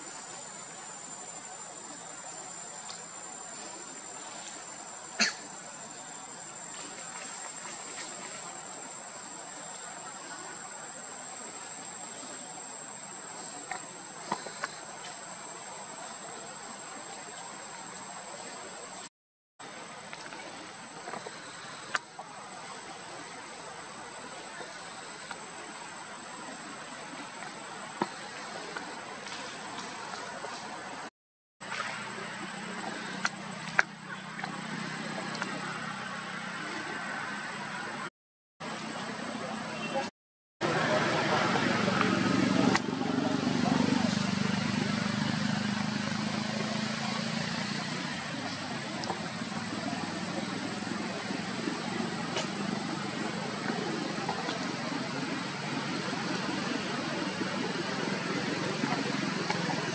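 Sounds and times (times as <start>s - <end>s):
faint outdoor hiss: 0.0s - 59.9s
insects droning: 0.0s - 59.9s.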